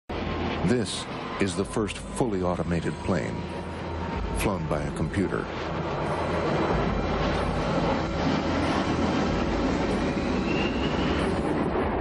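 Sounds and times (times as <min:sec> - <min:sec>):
jet engines rushing: 0:00.1 - 0:12.0
rising engine whine: 0:00.1 - 0:12.0.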